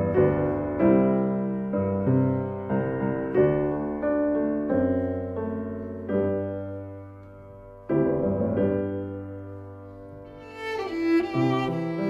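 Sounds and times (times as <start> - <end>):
piano playing slow chords: 0.0 - 12.0.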